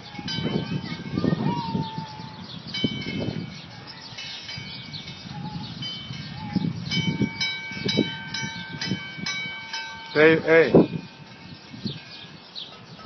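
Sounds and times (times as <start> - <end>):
metal wind chimes ringing: 0.0 - 13.0.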